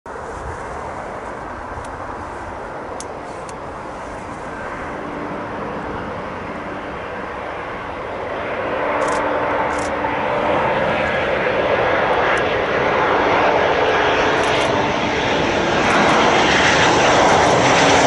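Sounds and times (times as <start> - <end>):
jet airliner engines rushing: 0.1 - 18.0.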